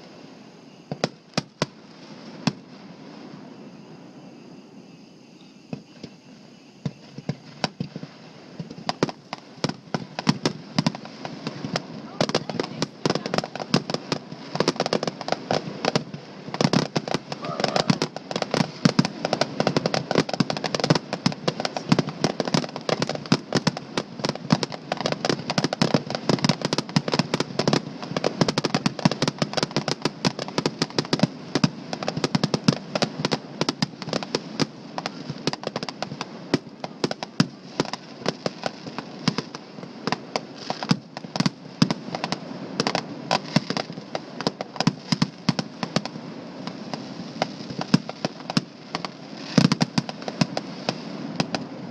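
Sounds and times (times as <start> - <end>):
fireworks bangs and pops: 0.0 - 3.4, 5.4 - 51.9.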